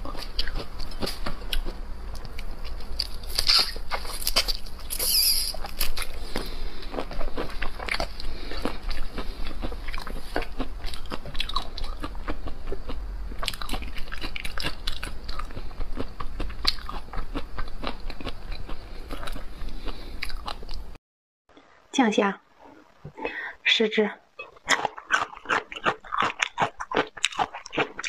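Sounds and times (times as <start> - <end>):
wet crunching and chewing: 0.0 - 20.9, 24.4 - 28.0.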